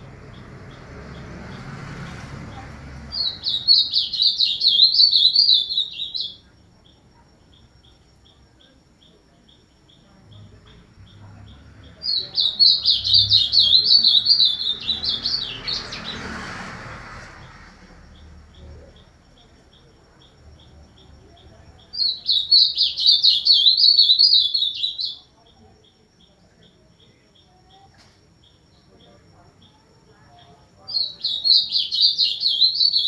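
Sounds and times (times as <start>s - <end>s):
bird singing warbling phrases: 0.0s - 16.4s, 17.4s - 33.0s.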